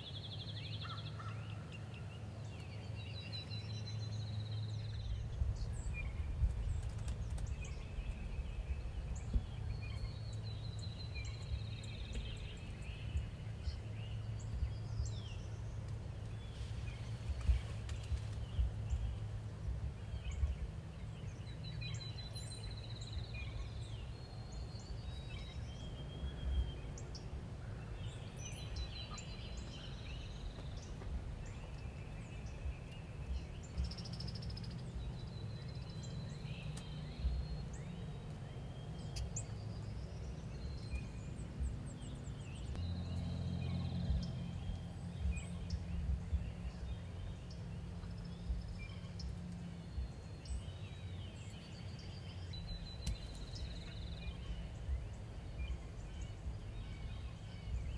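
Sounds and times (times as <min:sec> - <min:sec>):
steady low rumble: 0:00.0 - 0:57.9
wild birds chirping and trilling: 0:00.0 - 0:57.9.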